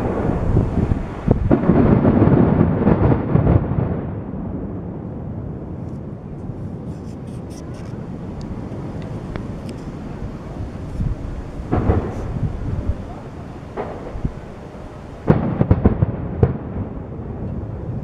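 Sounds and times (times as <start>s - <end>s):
fireworks booms: 0.0s - 18.0s
fireworks crackles: 0.0s - 18.0s.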